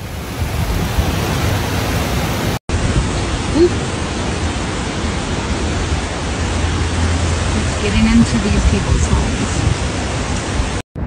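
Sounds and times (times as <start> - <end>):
hurricane wind and rain: 0.0 - 11.0
wind buffeting microphone: 0.0 - 11.0.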